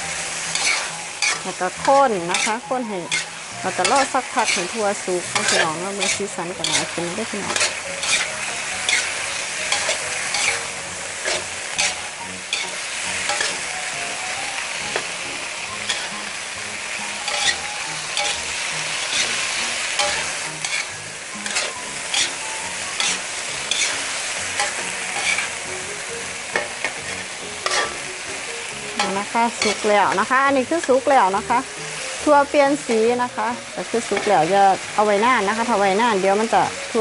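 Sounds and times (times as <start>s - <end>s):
food sizzling in a wok: 0.0s - 37.0s
metal spatula scraping a wok: 0.2s - 25.8s, 26.5s - 28.1s, 28.9s - 32.0s, 32.7s - 33.2s, 34.0s - 35.2s.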